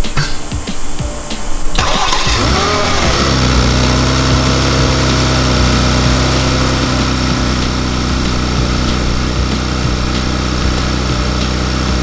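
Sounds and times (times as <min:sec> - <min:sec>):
car engine starting and idling: 0:01.6 - 0:12.0.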